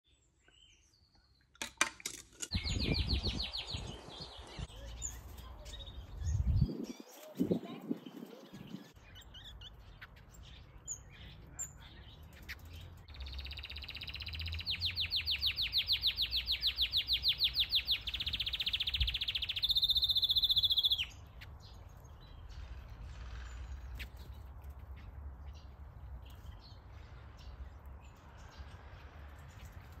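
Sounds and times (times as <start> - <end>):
birds chirping: 2.5 - 30.0.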